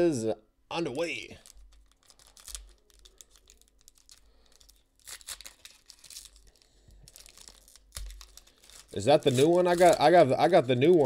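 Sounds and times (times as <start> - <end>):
foil wrapper crinkling and tearing: 1.4 - 11.0.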